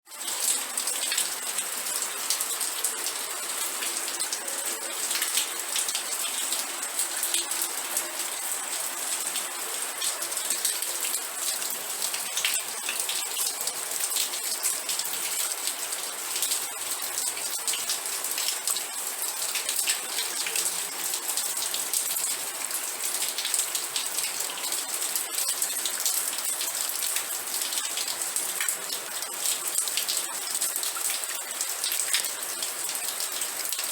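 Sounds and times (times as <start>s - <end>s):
heavy rain: 0.1s - 33.9s.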